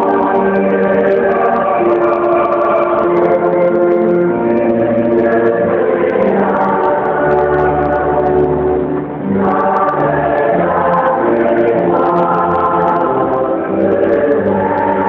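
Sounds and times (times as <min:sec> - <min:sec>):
voices singing a hymn: 0:00.0 - 0:15.0.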